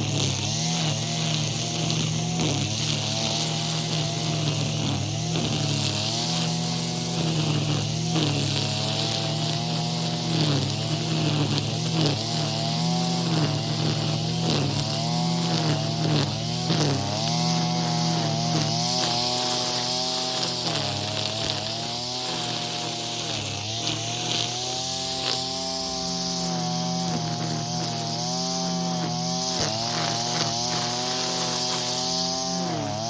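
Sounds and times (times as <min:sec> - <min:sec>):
brush cutter engine: 0:00.0 - 0:33.0.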